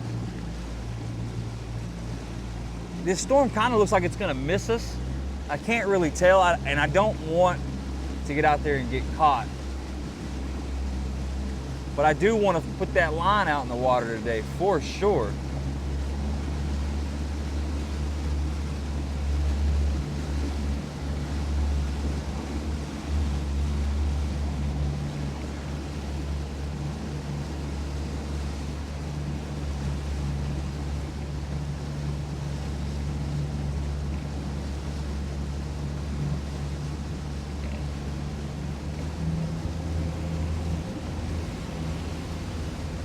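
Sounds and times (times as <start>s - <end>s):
outboard motor droning: 0.0s - 43.0s.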